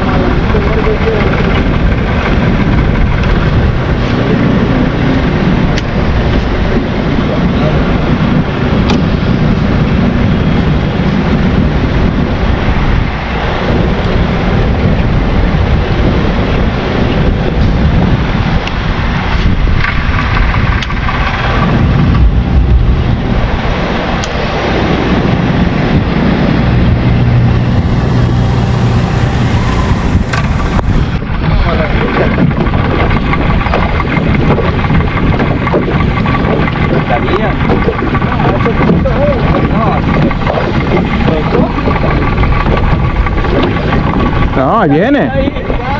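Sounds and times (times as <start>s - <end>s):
outboard motor running: 0.0s - 45.9s
water rushing: 0.0s - 45.9s
wind on microphone: 0.0s - 45.9s.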